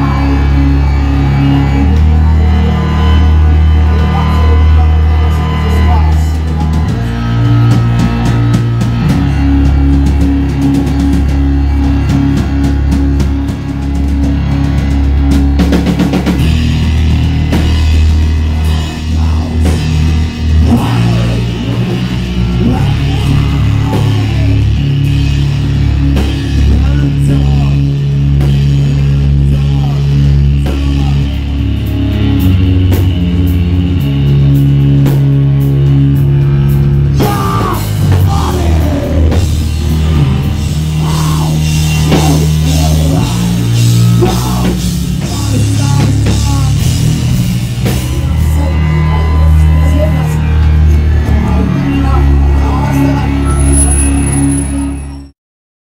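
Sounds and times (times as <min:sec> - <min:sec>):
live heavy rock band: 0:00.0 - 0:55.3.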